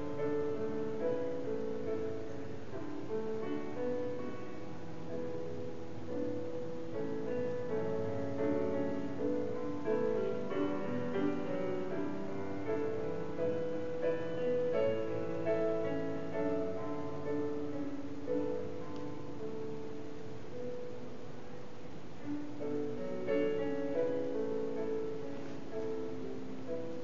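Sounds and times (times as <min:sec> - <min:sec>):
slow gentle keyboard music: 0:00.0 - 0:27.0.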